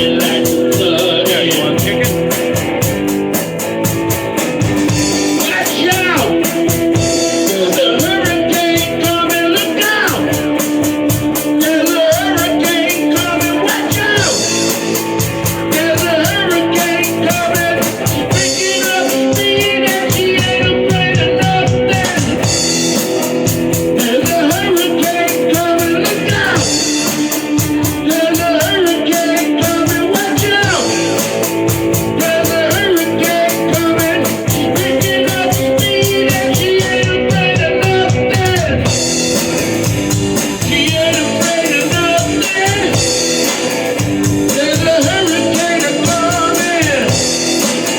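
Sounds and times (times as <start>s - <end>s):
rock song with singing: 0.0s - 47.9s.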